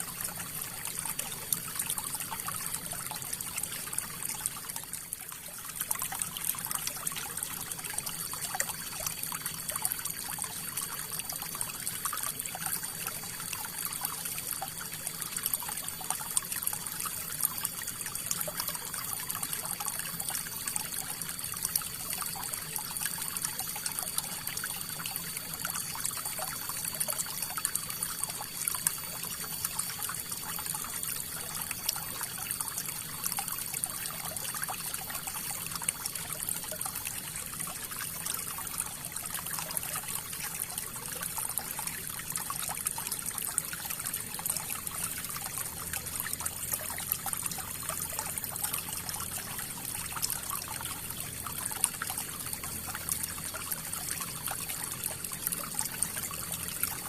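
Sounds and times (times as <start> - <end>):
river water trickling: 0.0 - 57.0.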